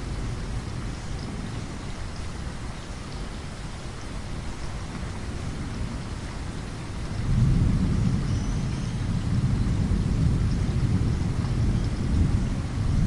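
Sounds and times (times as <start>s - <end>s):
low rumble of thunder: 0.0s - 13.0s
rain pattering on a window: 0.0s - 13.0s.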